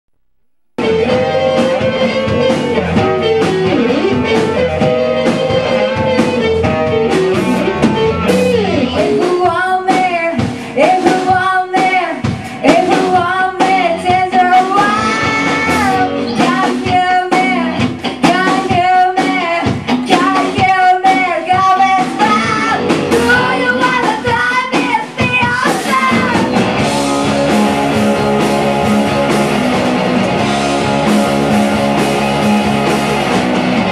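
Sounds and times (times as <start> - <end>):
rock band music: 0.8 - 33.9.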